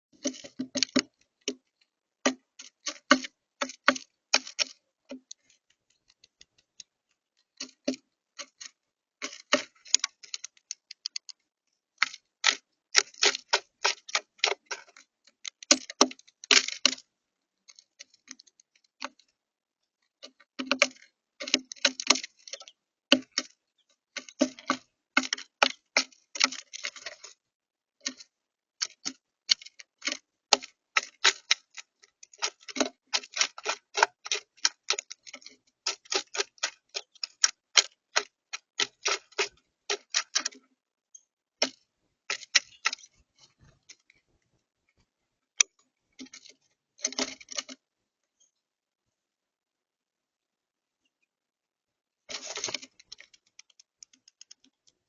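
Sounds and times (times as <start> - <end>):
bird pecking at feeder: 0.1 - 19.4, 20.0 - 27.4, 28.0 - 44.5, 45.6 - 47.8, 52.3 - 55.0.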